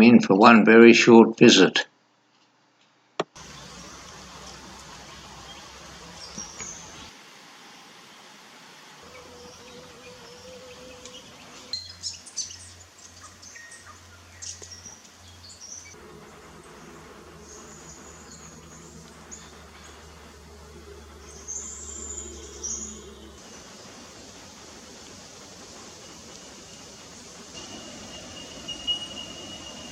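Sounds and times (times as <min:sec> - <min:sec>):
small birds chirping: 0:03.4 - 0:07.2, 0:09.1 - 0:16.0, 0:16.6 - 0:29.9
faint insect buzz: 0:03.4 - 0:12.4, 0:14.4 - 0:29.9.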